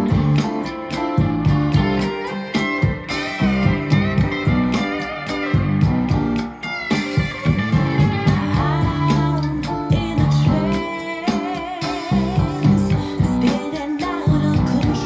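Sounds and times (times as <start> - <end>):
guitar song through speakers: 0.0 - 15.0.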